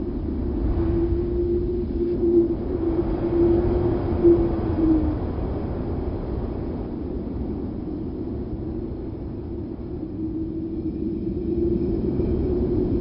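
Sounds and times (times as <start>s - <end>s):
rumbling rush of wind: 0.0s - 13.0s.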